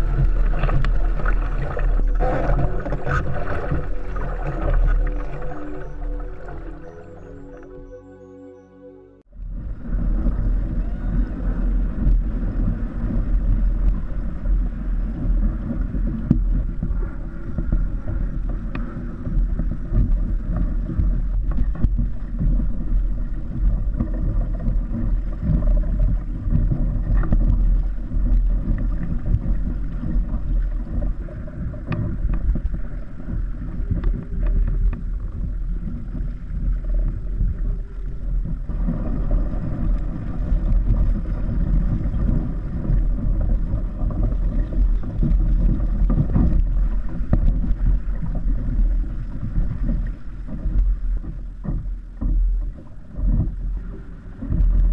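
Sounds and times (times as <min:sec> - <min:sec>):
water washing around kayak: 0:00.0 - 0:07.7, 0:09.3 - 0:54.9
wind buffeting microphone: 0:00.0 - 0:07.7, 0:09.3 - 0:54.9.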